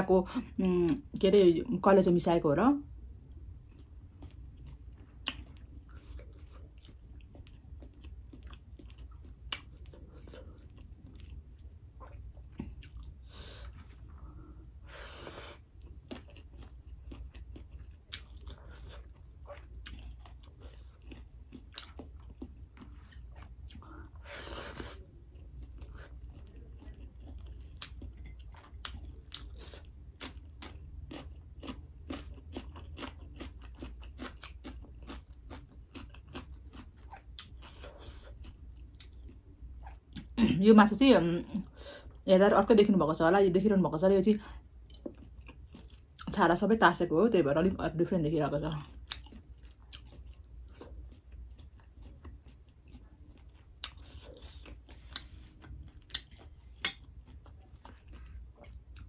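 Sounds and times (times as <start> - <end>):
person chewing food: 3.1 - 40.4, 44.5 - 46.3, 48.7 - 59.0.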